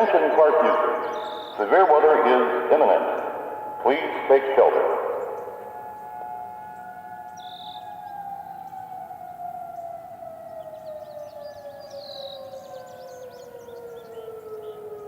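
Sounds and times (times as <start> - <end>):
warning siren winding down: 0.0 - 15.0.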